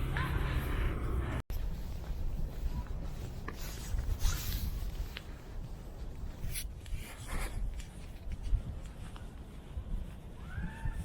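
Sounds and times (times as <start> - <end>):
rustling swishes: 0.0 - 10.3
wind buffeting microphone: 0.0 - 11.0.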